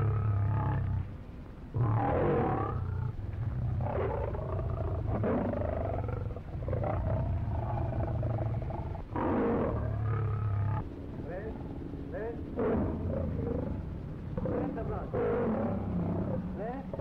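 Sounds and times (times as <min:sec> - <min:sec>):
animal calls with wavering pitch: 0:00.0 - 0:17.0
steady low hum: 0:00.0 - 0:17.0.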